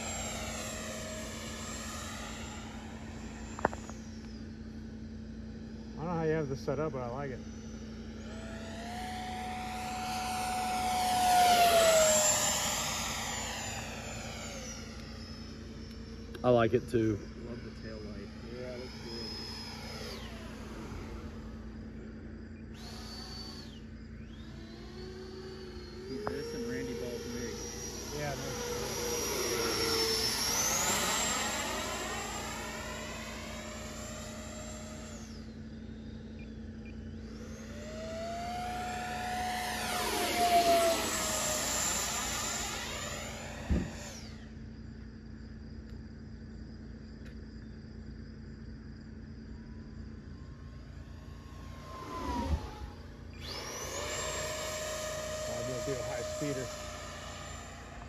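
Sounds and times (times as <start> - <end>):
model jet fan whining: 0.0 - 58.0.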